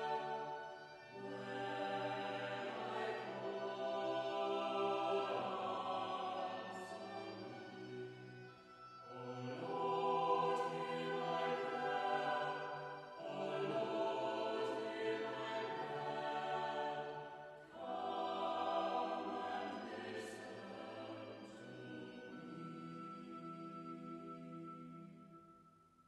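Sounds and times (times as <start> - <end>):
choir singing: 0.0 - 25.2.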